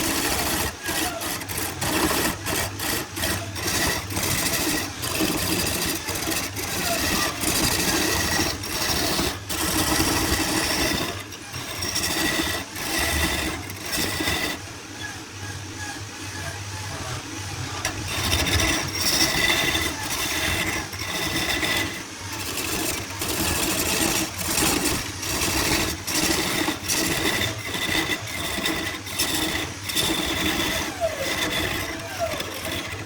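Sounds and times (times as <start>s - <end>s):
power tool cutting wood: 0.0s - 33.0s.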